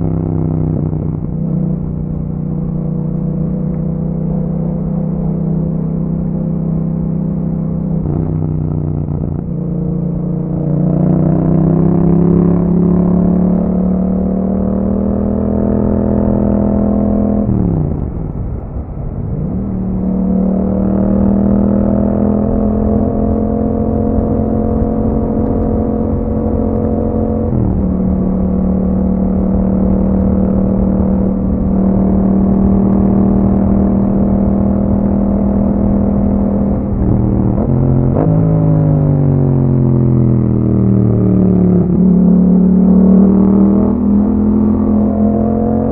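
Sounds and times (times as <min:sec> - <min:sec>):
motorcycle engine while riding: 0:00.0 - 0:45.9.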